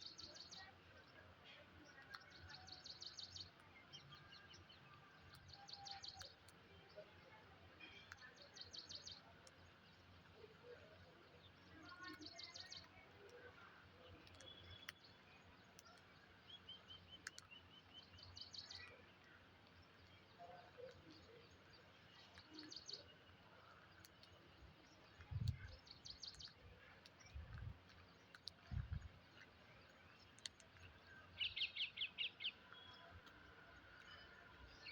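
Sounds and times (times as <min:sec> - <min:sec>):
faint bird chirps: 0:00.0 - 0:34.9.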